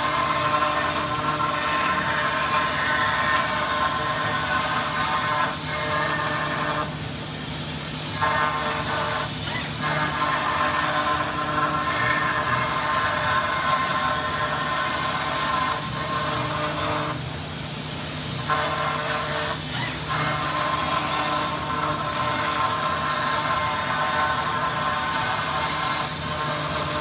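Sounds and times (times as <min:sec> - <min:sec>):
cnc machine whine: 0:00.0 - 0:27.0.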